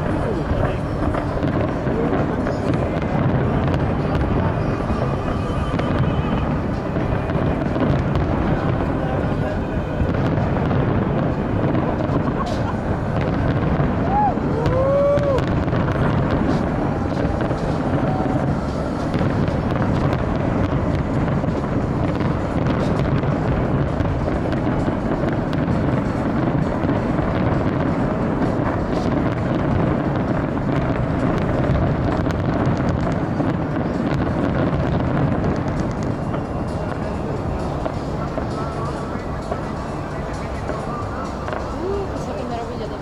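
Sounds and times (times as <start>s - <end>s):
fireworks crackling and popping: 0.0s - 43.0s
music over loudspeakers: 0.0s - 43.0s
outdoor crowd din: 0.0s - 43.0s.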